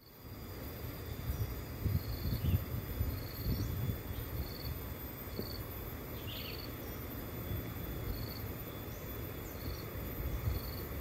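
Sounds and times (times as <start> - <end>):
insect chirping trills: 0.0 - 11.0.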